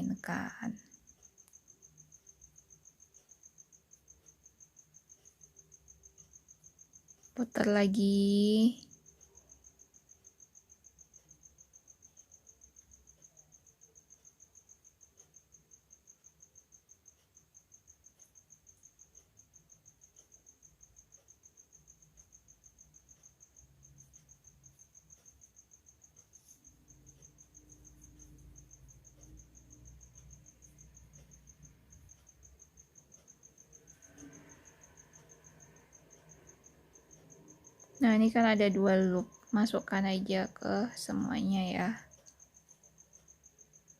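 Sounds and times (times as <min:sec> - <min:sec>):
cricket chirping: 0:00.0 - 0:43.9.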